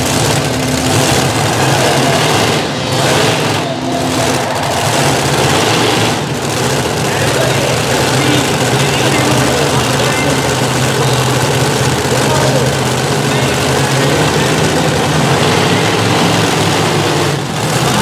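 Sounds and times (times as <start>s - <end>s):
tractor engines idling: 0.0s - 18.0s.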